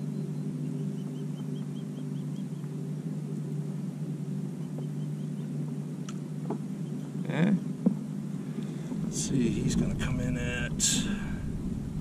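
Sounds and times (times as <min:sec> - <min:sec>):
distant engine drone: 0:00.0 - 0:12.0.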